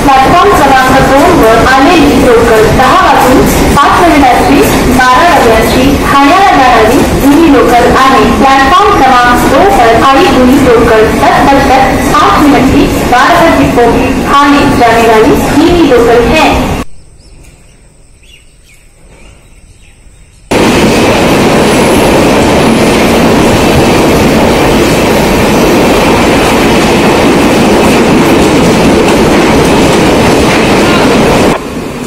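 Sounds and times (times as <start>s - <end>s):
train rumbling and rattling: 0.0s - 17.8s, 18.6s - 32.0s.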